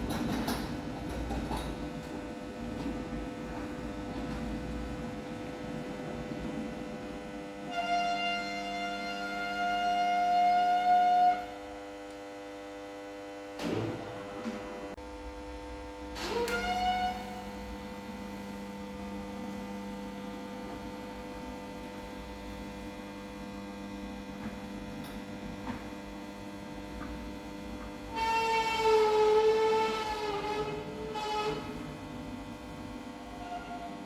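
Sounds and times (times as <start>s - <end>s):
garage door opener whine: 0.0s - 34.0s
steady electrical hum: 0.0s - 34.0s.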